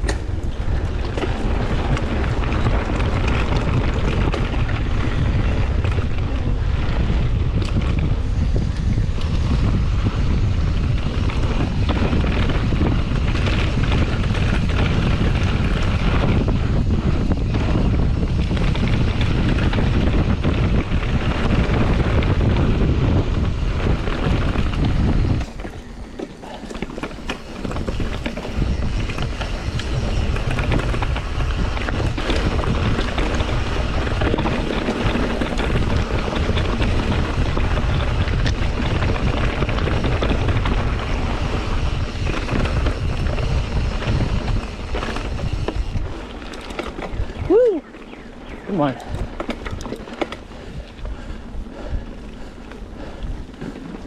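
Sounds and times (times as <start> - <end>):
bike rattling on dirt trail: 0.0 - 54.0
wind buffeting microphone: 0.0 - 54.0.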